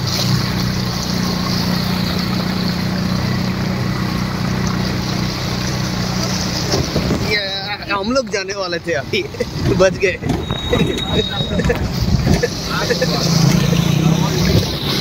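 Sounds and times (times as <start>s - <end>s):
rushing floodwater: 0.0s - 15.0s
vehicle engine humming: 0.0s - 15.0s.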